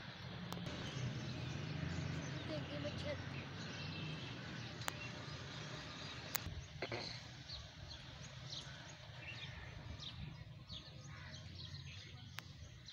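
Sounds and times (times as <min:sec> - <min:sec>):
small birds chirping: 0:00.2 - 0:12.9.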